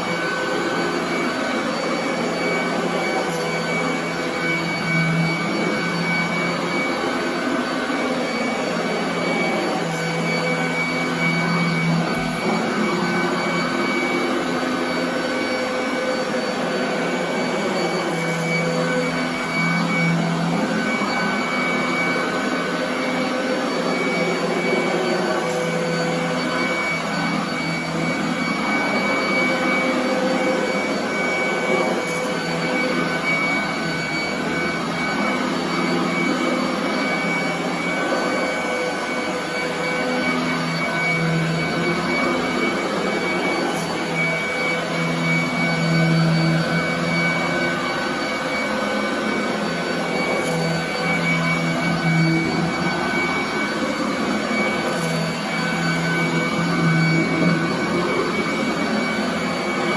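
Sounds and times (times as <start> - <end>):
vacuum cleaner on carpet: 0.0 - 59.9.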